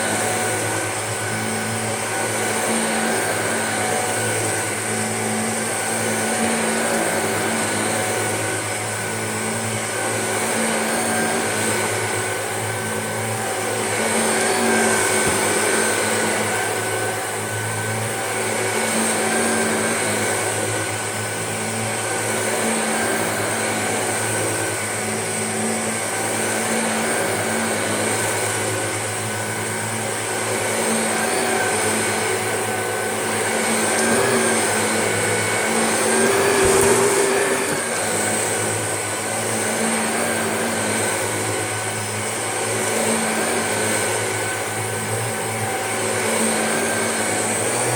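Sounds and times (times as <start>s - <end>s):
vacuum cleaner running on rug: 0.0s - 47.9s.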